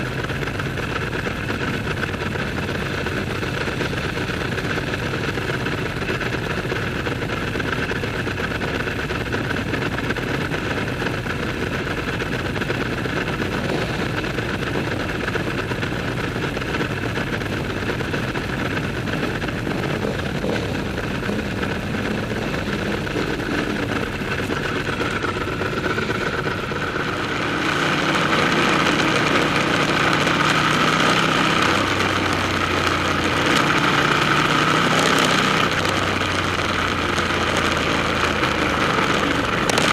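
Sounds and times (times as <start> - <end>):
motorcycle engines in a tunnel: 0.0 - 39.9.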